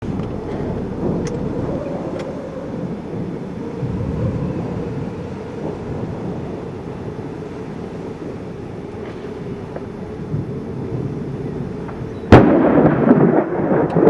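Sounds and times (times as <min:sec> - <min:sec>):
storm wind on microphone: 0:00.0 - 0:14.0.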